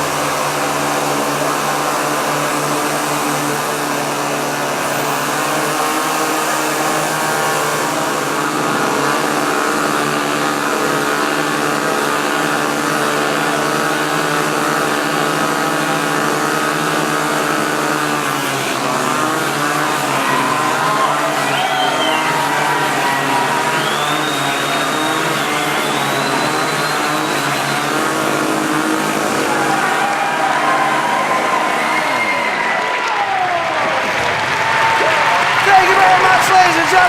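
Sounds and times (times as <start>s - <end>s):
chainsaw engines running: 0.0s - 37.0s.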